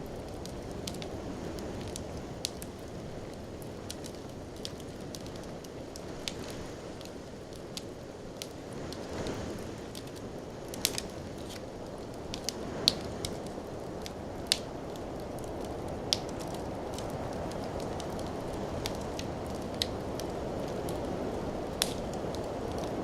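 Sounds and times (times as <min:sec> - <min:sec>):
fire crackling and popping: 0:00.0 - 0:23.0
fire flames rushing: 0:00.0 - 0:23.0.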